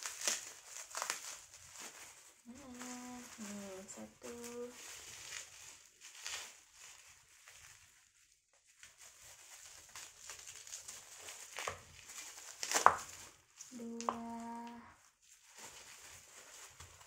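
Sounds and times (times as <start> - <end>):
bubble wrap crinkling: 0.0 - 17.0
sharp crackle: 0.0 - 17.0.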